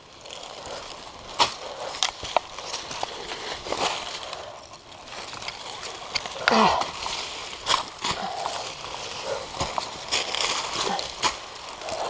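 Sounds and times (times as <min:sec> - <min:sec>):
dry leaves crunching underfoot: 0:00.0 - 0:12.0
sharp crackles: 0:00.0 - 0:12.0.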